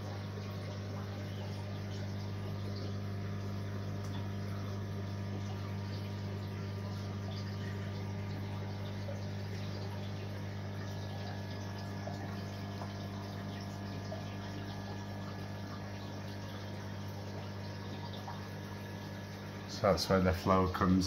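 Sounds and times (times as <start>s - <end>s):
pump hum: 0.0s - 21.0s
water flowing and trickling: 0.0s - 21.0s.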